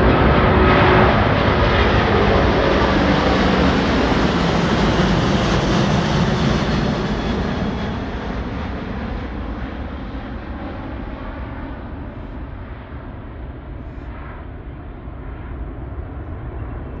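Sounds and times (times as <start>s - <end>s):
jet engines rumbling at takeoff: 0.0s - 17.0s.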